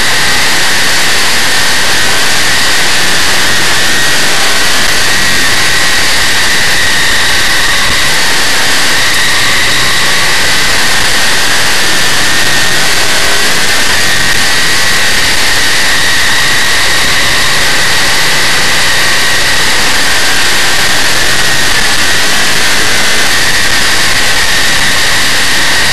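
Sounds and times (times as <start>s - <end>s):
race car engine roaring: 0.0s - 25.9s.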